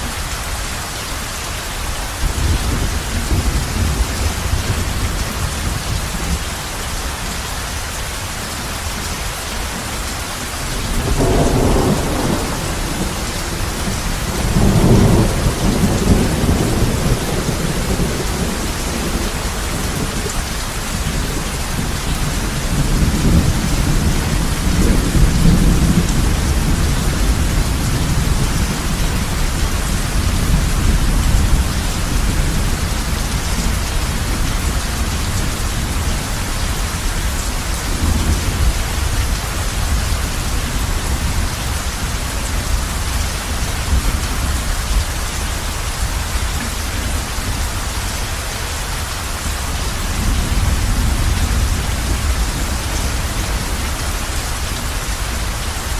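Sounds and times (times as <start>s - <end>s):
heavy rain on a roof: 0.0s - 55.9s
rumble of thunder: 2.2s - 6.5s, 10.8s - 47.6s, 49.5s - 55.5s.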